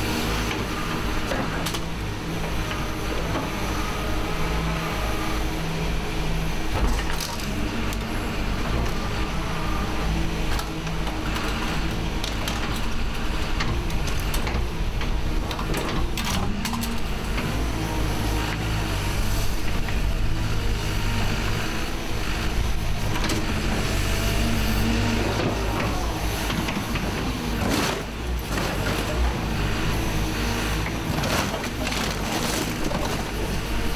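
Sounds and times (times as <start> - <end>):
excavator engine and hydraulics: 0.0 - 33.9.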